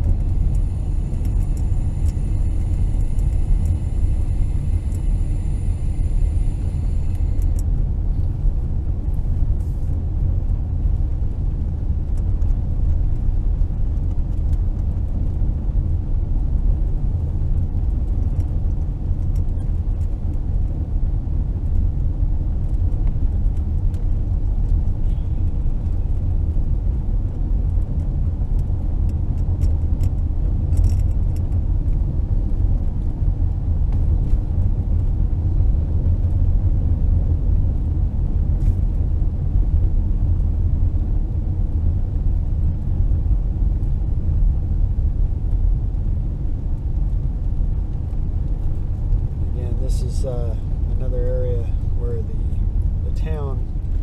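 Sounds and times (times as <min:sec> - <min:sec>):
car engine hum: 0:00.0 - 0:54.0
road and tyre rumble: 0:00.0 - 0:54.0.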